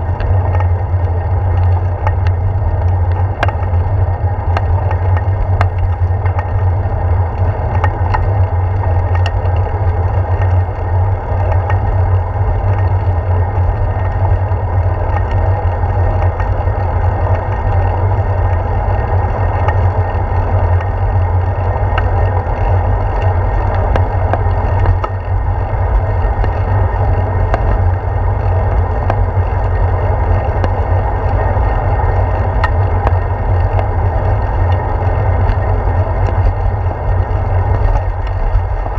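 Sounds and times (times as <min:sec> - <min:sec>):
bike clicks and rattles: 0:00.0 - 0:38.9
road rumble: 0:00.0 - 0:38.9
wind rush: 0:00.0 - 0:38.9.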